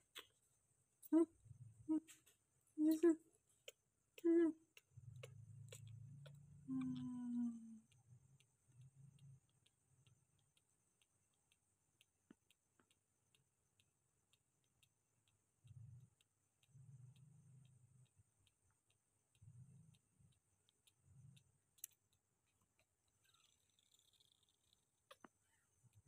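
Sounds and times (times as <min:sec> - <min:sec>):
faint regular ticking: 0:02.9 - 0:26.0.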